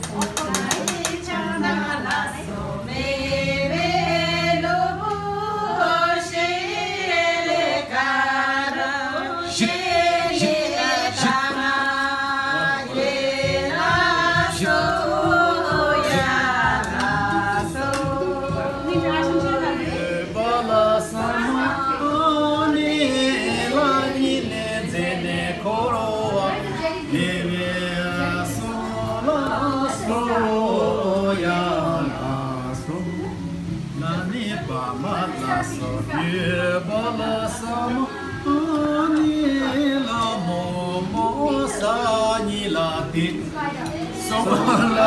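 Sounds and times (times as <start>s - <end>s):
group singing without instruments: 0.0s - 45.0s.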